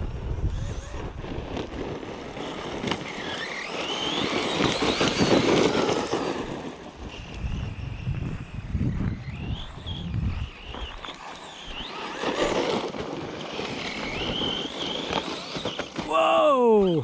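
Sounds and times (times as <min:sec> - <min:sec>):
wind buffeting microphone: 0:00.0 - 0:03.4, 0:04.0 - 0:15.8
tyres rumbling on dirt: 0:00.0 - 0:16.5
electric motor whining: 0:00.0 - 0:16.9.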